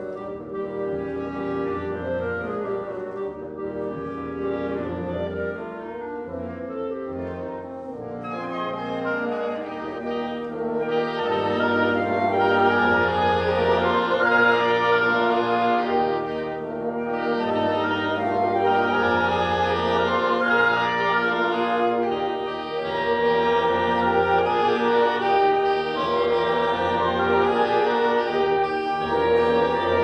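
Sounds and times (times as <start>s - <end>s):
french horns playing chords: 0.0s - 30.0s.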